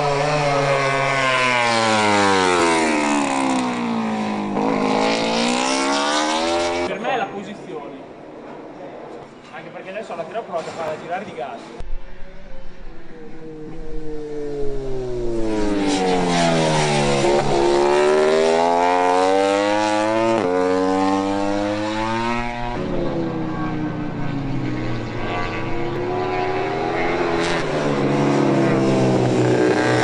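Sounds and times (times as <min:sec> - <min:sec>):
racing motorcycle engine: 0:00.0 - 0:07.0, 0:11.8 - 0:30.0.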